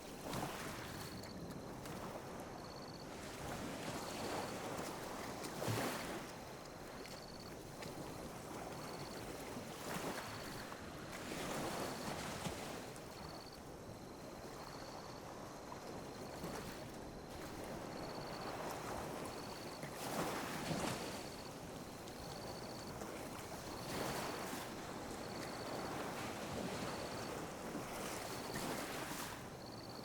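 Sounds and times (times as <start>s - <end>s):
small waves lapping on beach: 0.0s - 30.0s.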